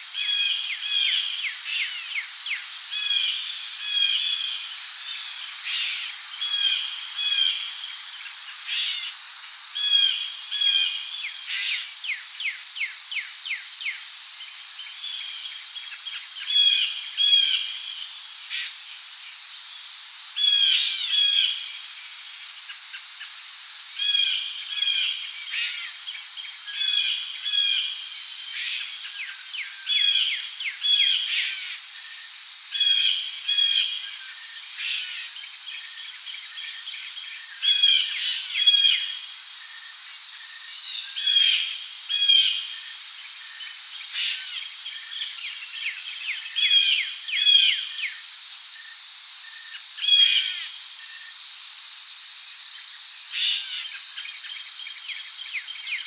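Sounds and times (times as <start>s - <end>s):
crickets droning: 0.0s - 56.0s.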